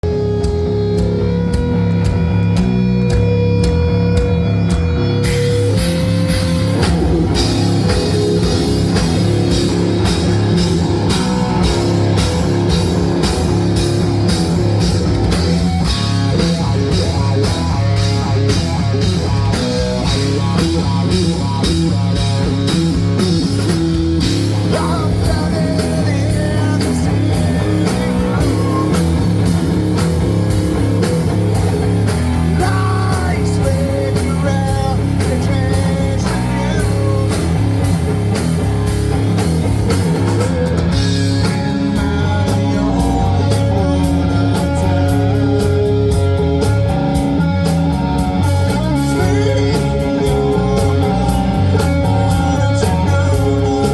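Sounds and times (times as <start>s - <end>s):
rock band playing live: 0.0s - 53.9s.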